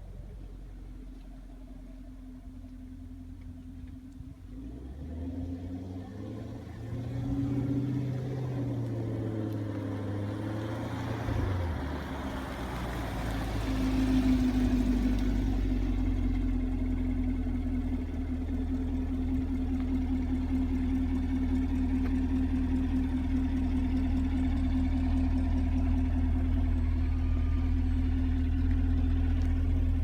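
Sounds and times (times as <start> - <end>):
car engine revving: 3.7 - 30.0.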